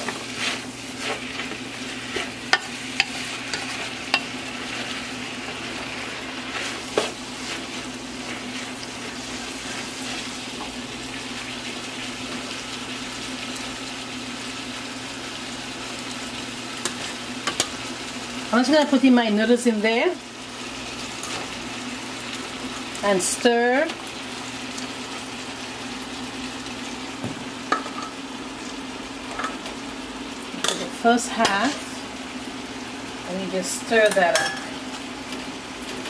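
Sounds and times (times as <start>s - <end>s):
vegetables sizzling in a pot: 0.0s - 36.0s.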